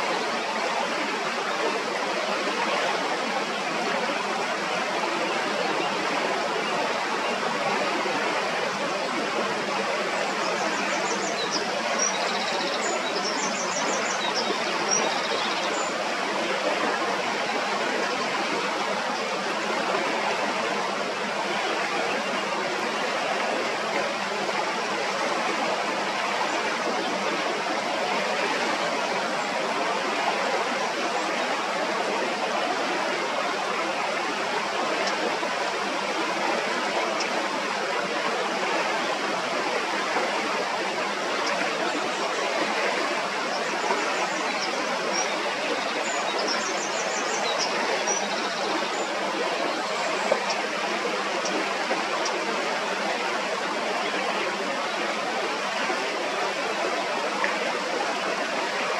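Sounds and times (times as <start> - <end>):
stream running over stones: 0.0 - 58.9.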